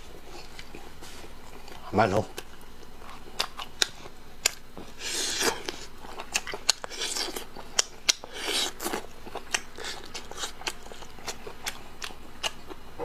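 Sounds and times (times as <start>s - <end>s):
wet chewing: 0.0s - 12.9s.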